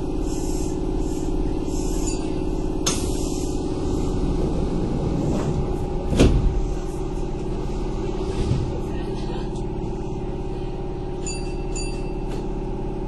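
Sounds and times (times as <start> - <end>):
track rumble: 0.0 - 13.0
train motor hum: 0.0 - 13.0.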